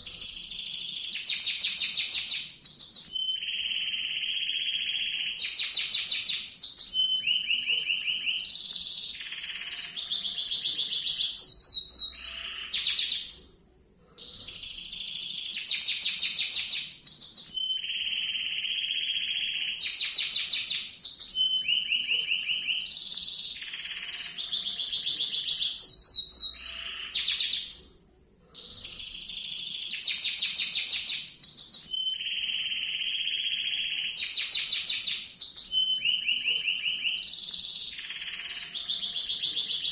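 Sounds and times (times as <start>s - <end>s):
canary singing: 0.0s - 13.4s, 14.2s - 27.8s, 28.6s - 39.9s.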